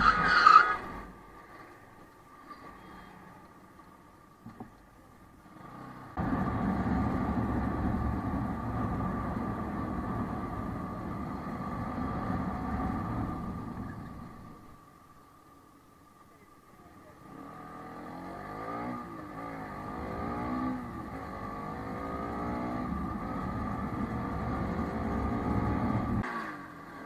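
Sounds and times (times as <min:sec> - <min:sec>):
motorcycle riding noise: 0:00.0 - 0:15.7, 0:16.8 - 0:27.0.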